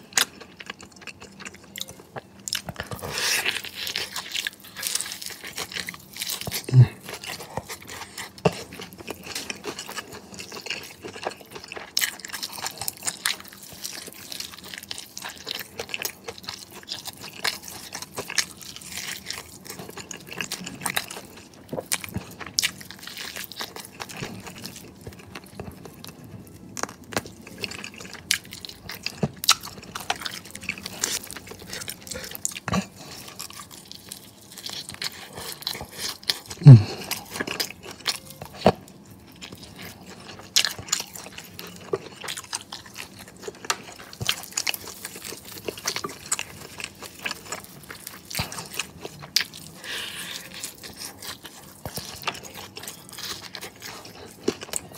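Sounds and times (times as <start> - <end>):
chewing crispy chicken: 0.0 - 54.9.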